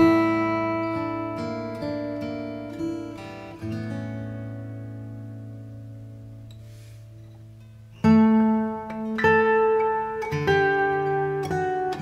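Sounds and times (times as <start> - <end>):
solo acoustic guitar: 0.0 - 12.0.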